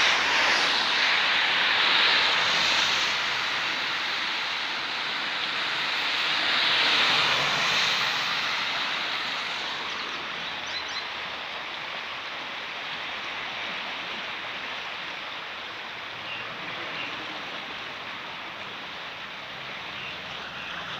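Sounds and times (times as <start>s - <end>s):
river water rushing: 0.0s - 20.9s.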